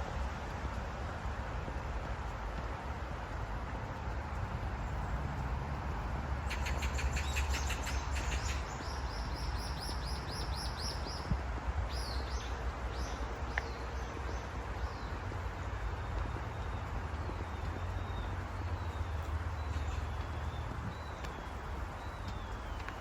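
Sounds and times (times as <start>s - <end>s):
songbird singing: 4.0s - 23.0s.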